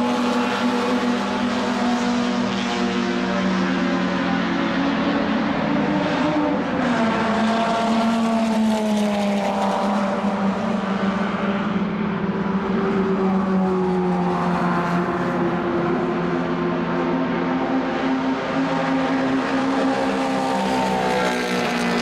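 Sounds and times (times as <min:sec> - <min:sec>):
racing car engines running hard: 0:00.0 - 0:22.0.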